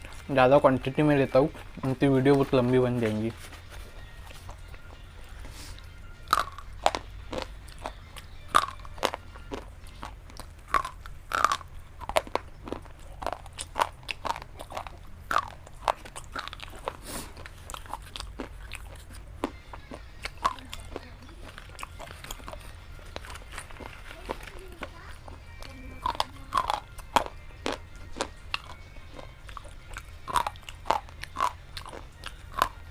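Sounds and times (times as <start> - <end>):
person chewing crunchy food: 0.0 - 0.3, 1.5 - 32.9
low background hum: 0.0 - 32.9.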